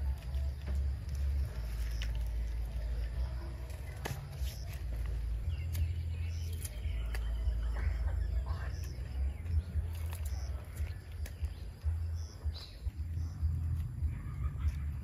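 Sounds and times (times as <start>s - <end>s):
dry leaf rustling and crackling: 0.0s - 15.0s
steady low rumble: 0.0s - 15.0s.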